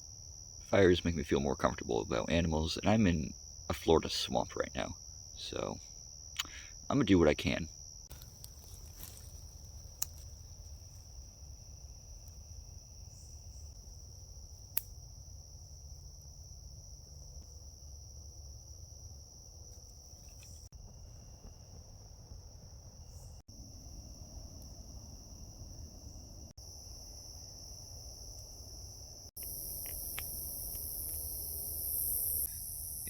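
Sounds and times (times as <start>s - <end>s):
insects drone: 0.0s - 33.0s.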